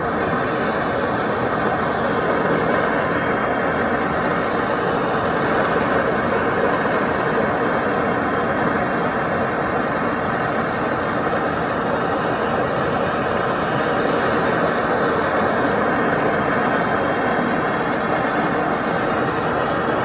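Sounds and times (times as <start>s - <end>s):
gas torch flame roaring: 0.0s - 20.0s.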